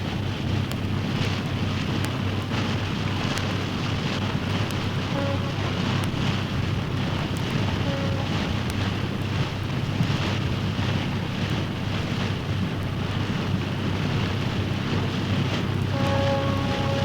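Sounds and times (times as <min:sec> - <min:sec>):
low rumble: 0:00.0 - 0:17.0
rushing wind-like noise: 0:00.0 - 0:17.0.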